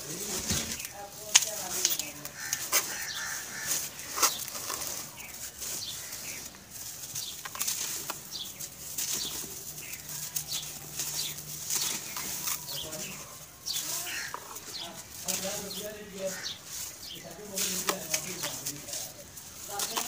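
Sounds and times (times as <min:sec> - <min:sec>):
lumps crunching by hand: 0:00.0 - 0:20.0.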